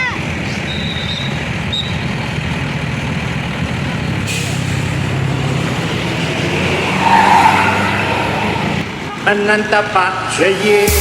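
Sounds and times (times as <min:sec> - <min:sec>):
bus engine rumble: 0:00.0 - 0:10.9
road noise: 0:00.0 - 0:11.0.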